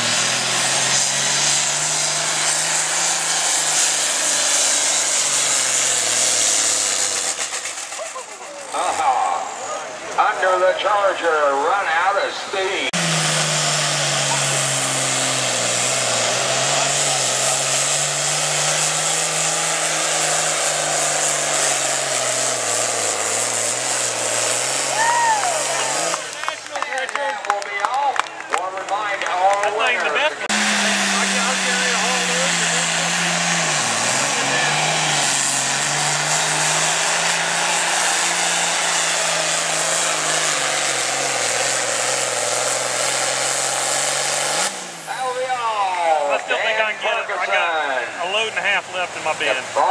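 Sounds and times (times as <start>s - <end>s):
high turbo whine: 0.0s - 8.0s, 8.7s - 26.5s, 30.2s - 49.9s
diesel engine at full throttle: 0.0s - 49.9s.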